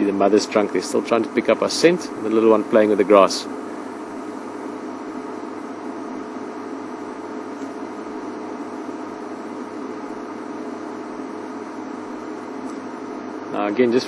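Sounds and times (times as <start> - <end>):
steady hum with hiss: 0.0 - 14.0.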